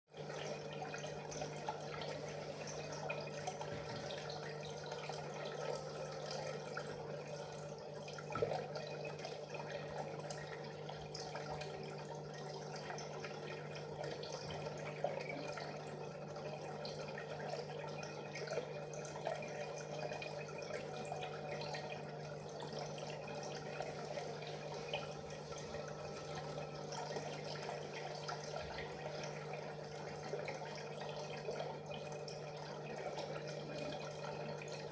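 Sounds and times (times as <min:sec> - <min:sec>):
aquarium water trickling: 0:00.1 - 0:34.9.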